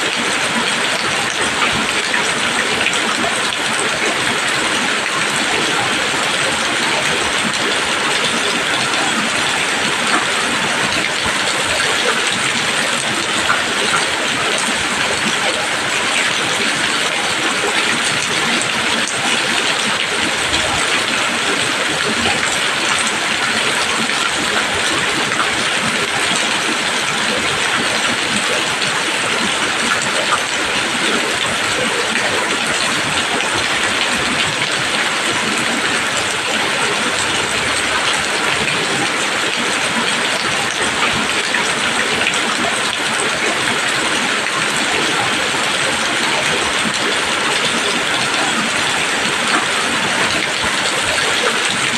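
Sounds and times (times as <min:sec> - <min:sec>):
rain falling on leaves: 0:00.0 - 0:51.9.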